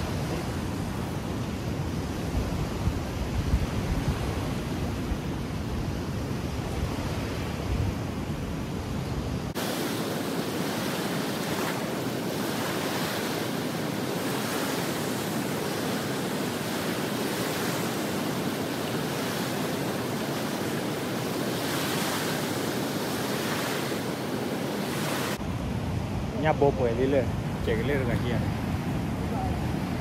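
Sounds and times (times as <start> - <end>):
waves washing onto shore: 0.0 - 30.0
wind on microphone: 0.0 - 30.0.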